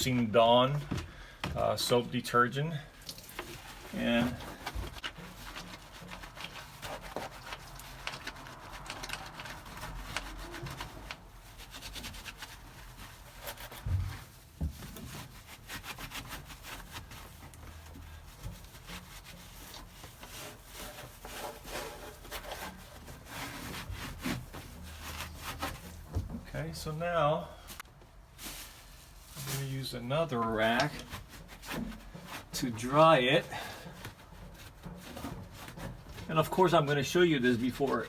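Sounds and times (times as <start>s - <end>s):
scrubbing on steel floor pan: 3.1s - 26.8s, 29.5s - 38.0s.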